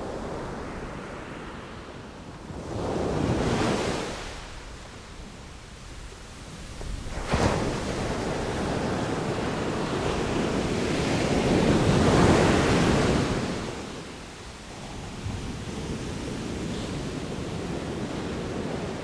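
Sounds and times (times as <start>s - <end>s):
surf washing on shore: 0.0s - 19.0s.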